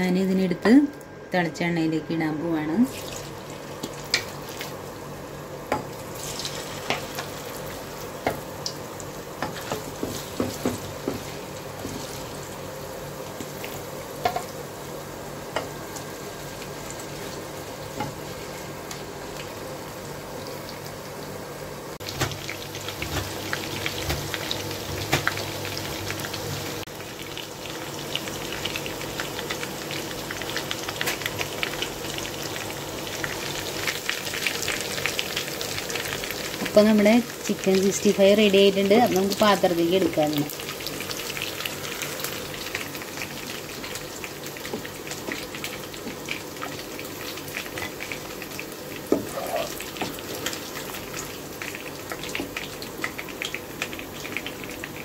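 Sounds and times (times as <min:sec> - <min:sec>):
chicken frying in hot oil: 0:02.5 - 0:55.0.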